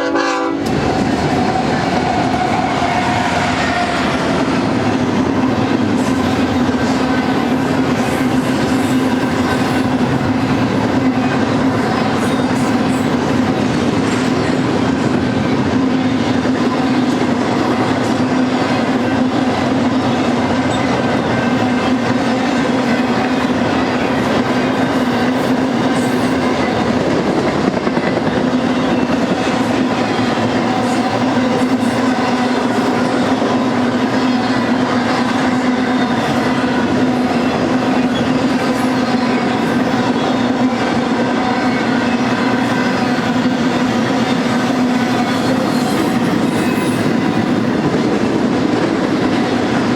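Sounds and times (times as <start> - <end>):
train wheels rolling on rail: 0.0 - 49.9.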